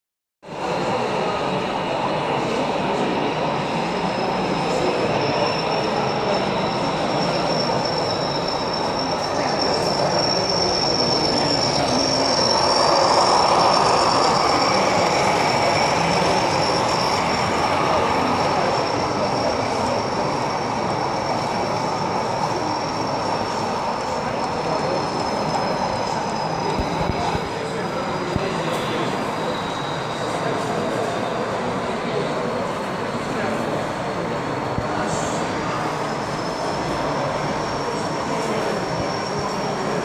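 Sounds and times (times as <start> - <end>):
model locomotive whining and humming: 0.5 - 40.0.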